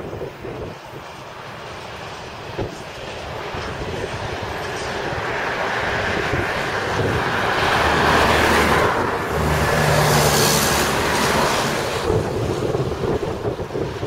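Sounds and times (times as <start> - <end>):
freight wagons rumbling over rails: 0.0 - 14.0
wind buffeting the microphone: 0.0 - 14.0.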